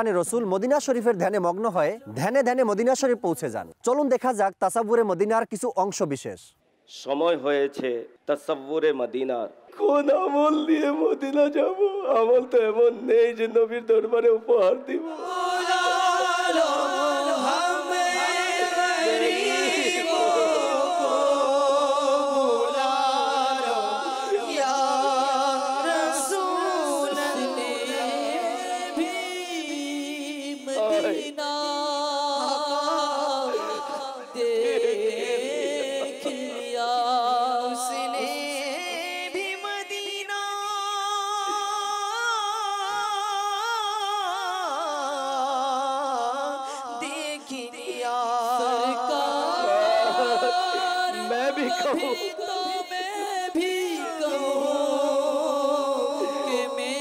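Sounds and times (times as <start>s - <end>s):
man singing unaccompanied: 9.8s - 57.0s.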